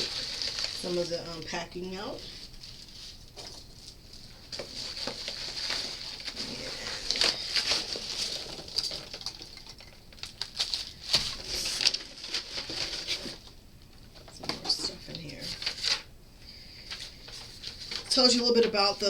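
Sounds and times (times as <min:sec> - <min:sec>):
packing material rustling: 0:00.0 - 0:16.1, 0:16.7 - 0:19.0.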